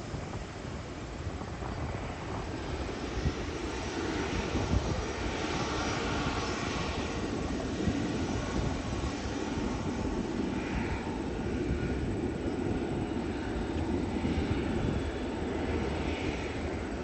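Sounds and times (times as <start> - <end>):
jet airliner engine rumble: 0.0 - 17.0.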